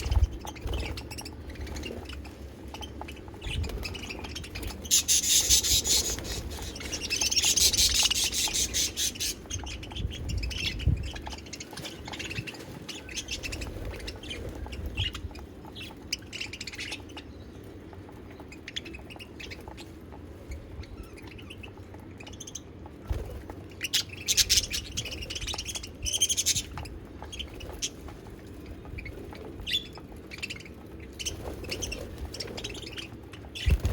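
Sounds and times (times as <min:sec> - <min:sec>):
budgerigars chirping and warbling: 0:00.0 - 0:33.9.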